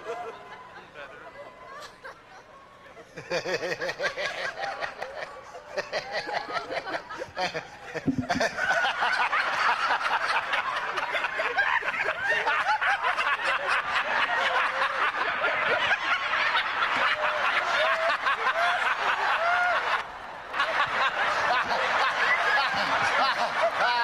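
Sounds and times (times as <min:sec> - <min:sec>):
crowd laughing: 0:00.0 - 0:24.0.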